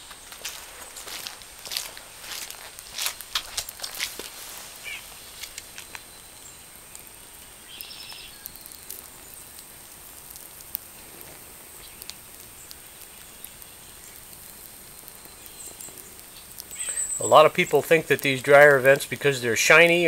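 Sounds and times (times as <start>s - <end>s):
flame hissing: 0.0s - 19.9s
burning plastic crackling: 0.0s - 20.0s.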